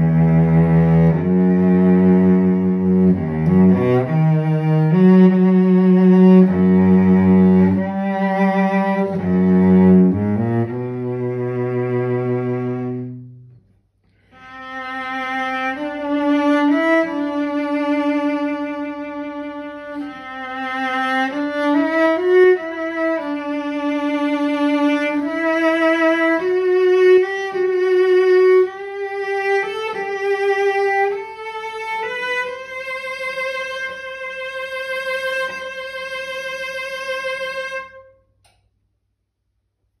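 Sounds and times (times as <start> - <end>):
cello melody with vibrato: 0.0 - 38.1.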